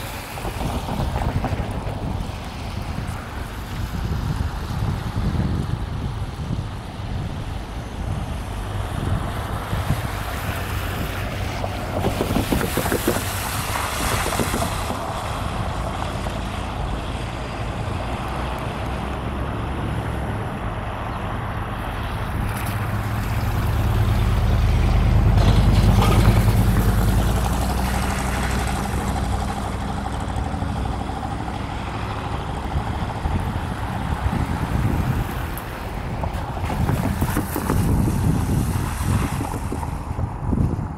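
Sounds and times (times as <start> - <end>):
diesel locomotive engine rumbling: 0.0 - 40.9
wind buffeting microphone: 0.0 - 40.9.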